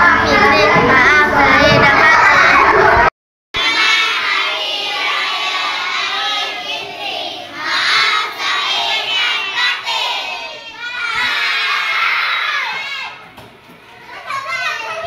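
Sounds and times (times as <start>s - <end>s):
children shouting and cheering: 0.0s - 15.0s.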